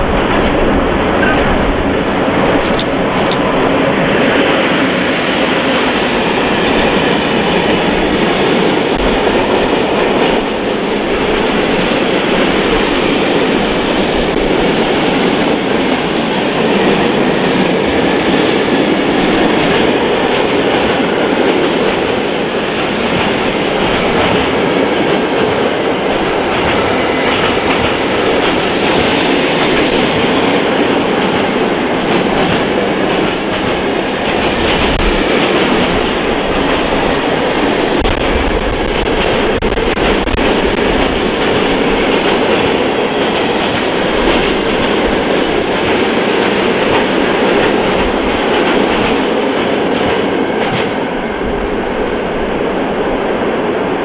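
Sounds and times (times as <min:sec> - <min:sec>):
train wheels clattering on rails: 0:02.4 - 0:51.4.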